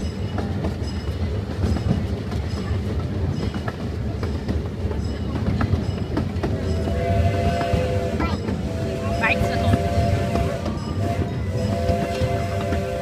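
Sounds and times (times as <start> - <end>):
train rumble: 0.0 - 13.0
wheels clattering on track: 0.0 - 13.0.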